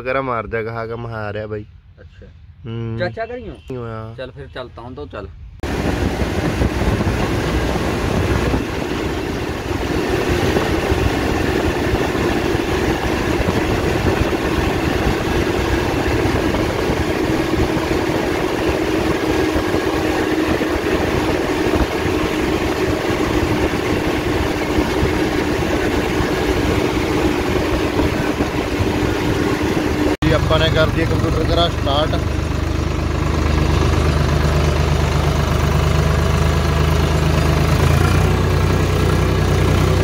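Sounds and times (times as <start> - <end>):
tractor diesel engine droning: 5.6 - 40.0.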